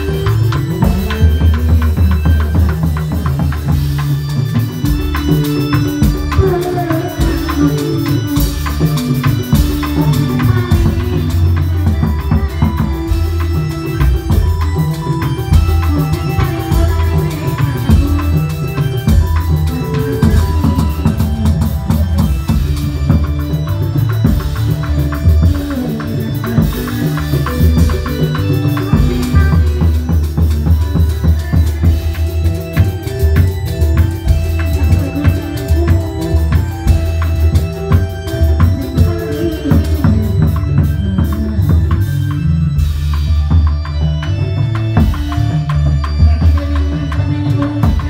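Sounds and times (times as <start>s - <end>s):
melodic keyboard: 0.0s - 48.0s
steady drum beat: 0.0s - 48.0s.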